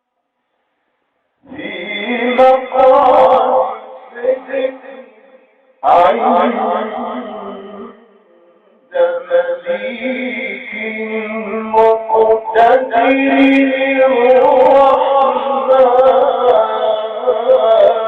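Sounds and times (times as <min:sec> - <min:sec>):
man reciting melodically: 0:01.4 - 0:18.0.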